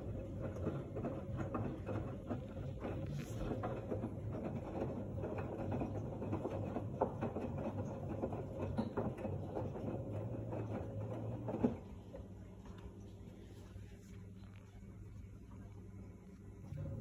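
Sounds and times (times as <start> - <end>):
washing machine running: 0.0 - 17.0.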